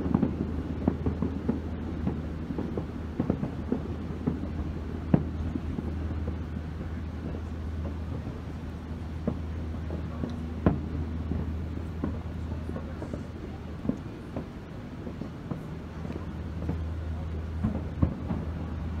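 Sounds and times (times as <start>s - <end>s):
fireworks popping: 0.0s - 19.0s
low rumble: 0.0s - 19.0s.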